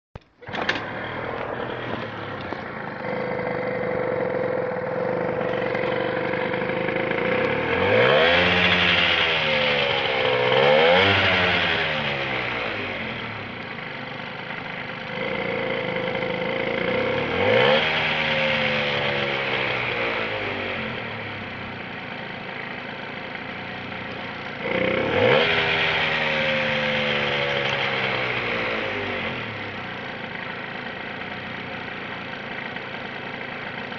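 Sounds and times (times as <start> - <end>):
engine idling and revving: 0.2 - 33.9.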